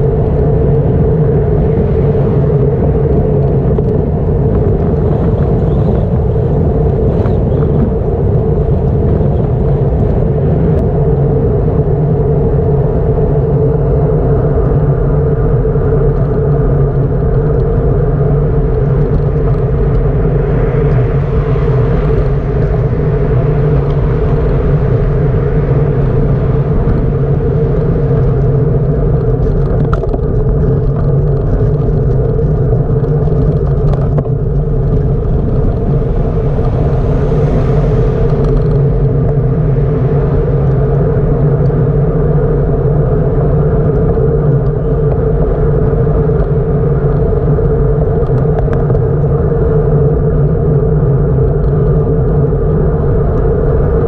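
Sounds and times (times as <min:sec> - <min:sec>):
wind and road rumble: 0:00.0 - 0:54.0.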